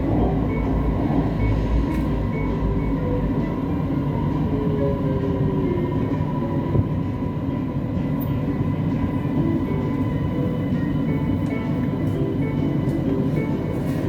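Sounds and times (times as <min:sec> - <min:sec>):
metro train rolling: 0:00.0 - 0:14.0.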